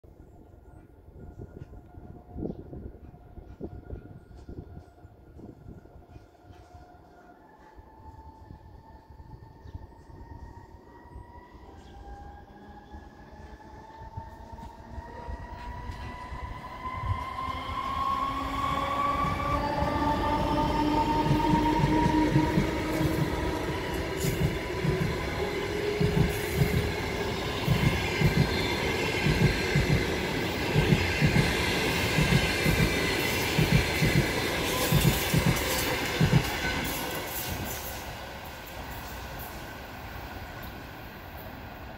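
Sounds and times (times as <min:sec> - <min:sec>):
electric locomotive whine: 0:00.1 - 0:41.9.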